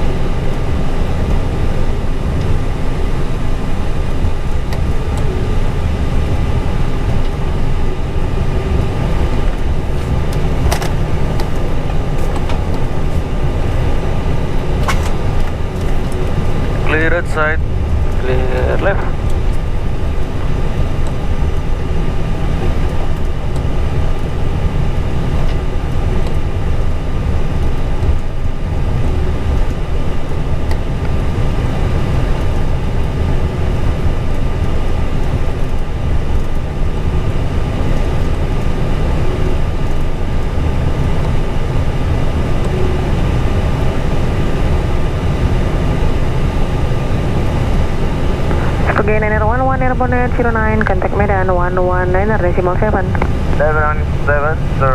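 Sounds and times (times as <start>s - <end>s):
cockpit engine rumble and hum: 0.0s - 54.9s.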